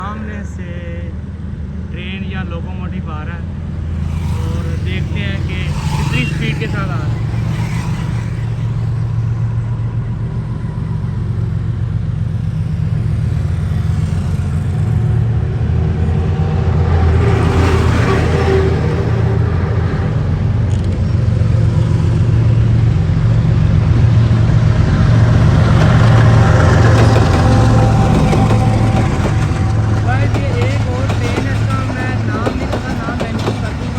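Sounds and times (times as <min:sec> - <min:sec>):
train approaching with low rumble: 0:00.0 - 0:33.9.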